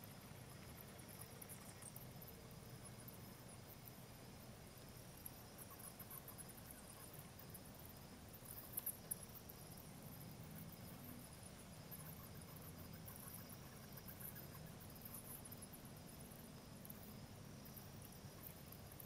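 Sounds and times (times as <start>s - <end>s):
bats chirping and ticking: 0.0s - 4.1s, 4.8s - 19.0s
insect trill: 0.0s - 19.0s.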